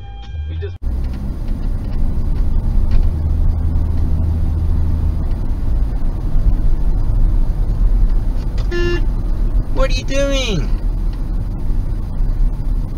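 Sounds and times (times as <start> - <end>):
car engine and tyres rumbling: 0.0 - 12.9.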